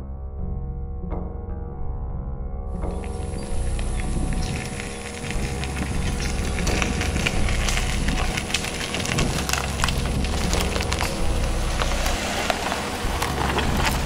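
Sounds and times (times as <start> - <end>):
tyres crunching over gravel: 2.7 - 14.0
vehicle low rumble: 2.7 - 14.0.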